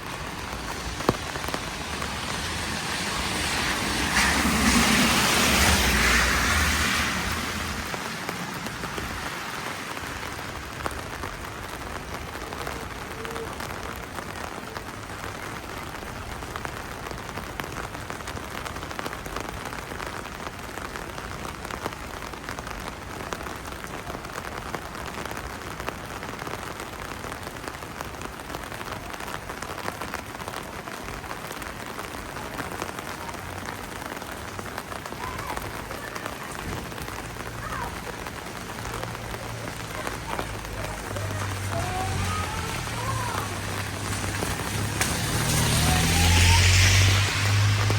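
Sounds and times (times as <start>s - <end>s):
rain falling on a street: 0.0s - 47.9s.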